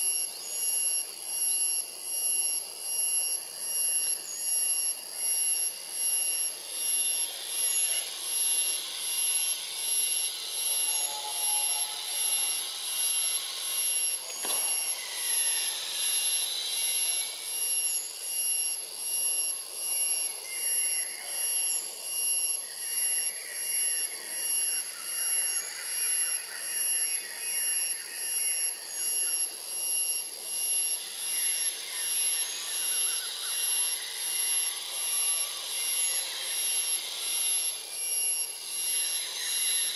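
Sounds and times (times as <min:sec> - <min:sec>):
faint soft insect calls: 0:00.0 - 0:39.9
shrill insect chorus: 0:00.0 - 0:39.9.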